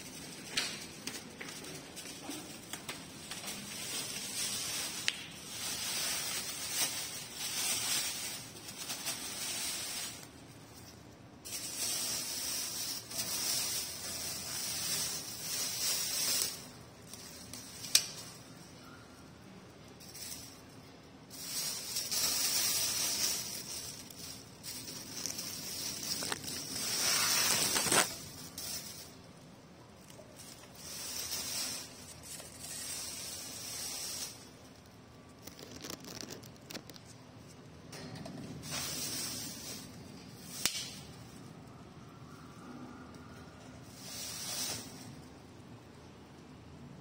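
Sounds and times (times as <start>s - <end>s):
plastic wrapping crinkling: 0.0s - 19.0s, 19.7s - 37.7s, 38.6s - 41.8s.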